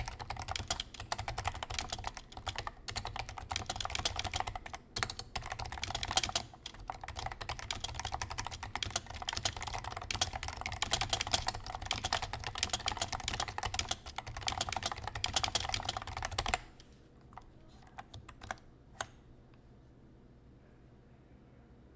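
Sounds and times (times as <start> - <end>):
fast keyboard typing: 0.0 - 16.8, 17.4 - 19.1.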